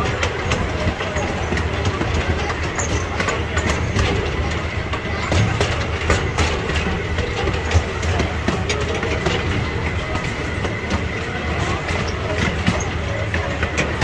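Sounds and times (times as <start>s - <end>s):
miniature train rumbling: 0.0s - 14.0s
wheels clicking over rail: 0.0s - 14.0s.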